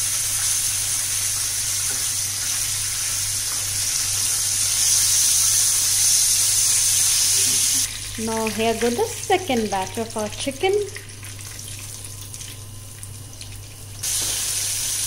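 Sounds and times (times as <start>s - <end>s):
oil sizzling in frying pan: 0.0s - 15.0s.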